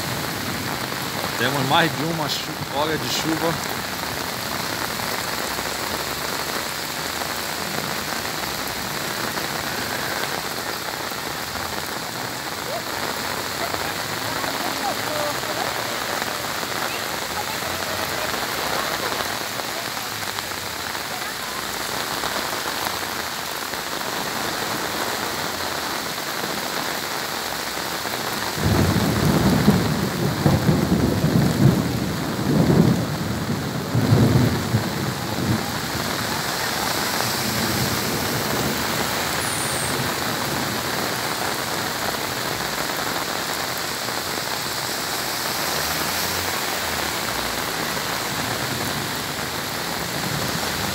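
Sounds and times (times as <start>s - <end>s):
heavy rain on street: 0.0s - 50.9s.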